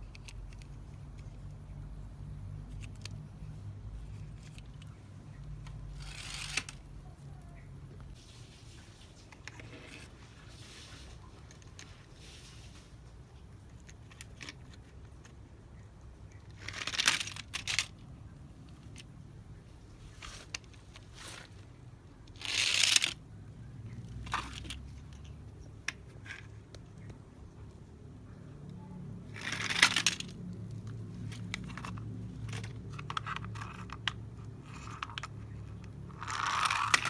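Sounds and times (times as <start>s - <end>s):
plastic toys rustling and scraping: 0.0s - 1.8s, 2.6s - 27.9s, 29.0s - 37.0s.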